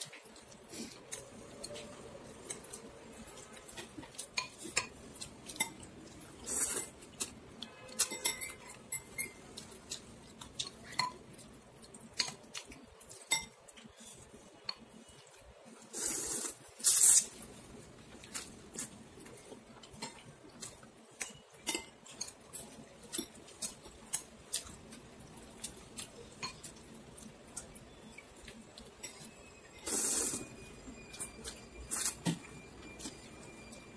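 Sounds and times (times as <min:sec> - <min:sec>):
chopsticks and spoon clinking bowl: 0:00.0 - 0:15.4, 0:18.2 - 0:33.9.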